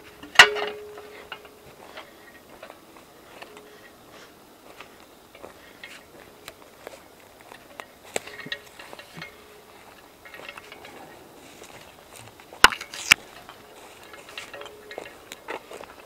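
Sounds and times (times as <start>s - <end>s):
footsteps crunching through leaves: 0.8s - 16.0s.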